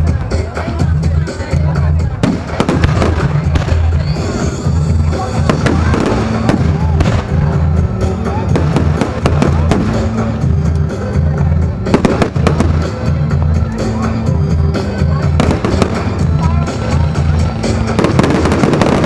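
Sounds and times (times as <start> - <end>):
loud music with heavy bass: 0.0 - 19.0
fireworks exploding and crackling: 0.1 - 19.0.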